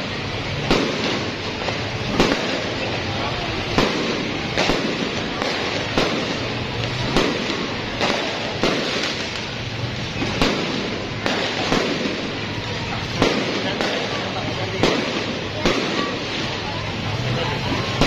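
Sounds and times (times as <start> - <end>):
continuous noisy background: 0.0 - 18.0
fireworks bangs: 0.0 - 18.0.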